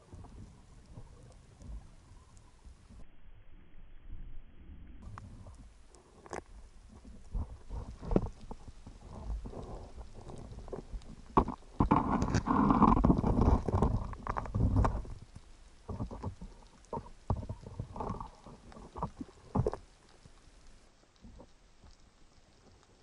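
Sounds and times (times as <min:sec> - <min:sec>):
muffled underwater rumbling: 0:00.0 - 0:23.0.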